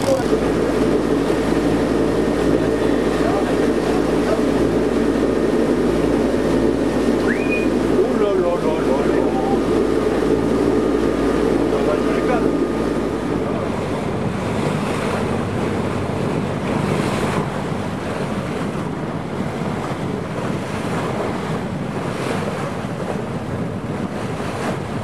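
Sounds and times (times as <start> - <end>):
open sea water: 0.0 - 25.0
wind buffeting microphone: 0.0 - 25.0.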